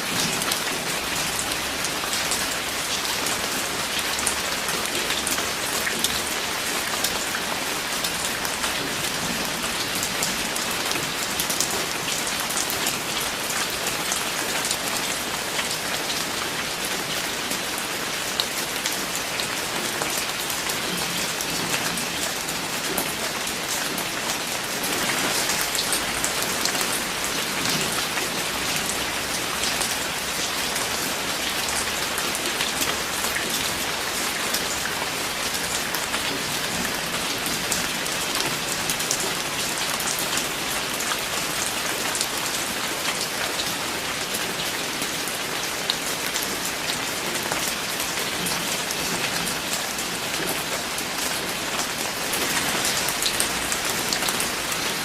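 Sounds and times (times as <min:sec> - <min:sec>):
rain drops pattering: 0:00.0 - 0:55.0.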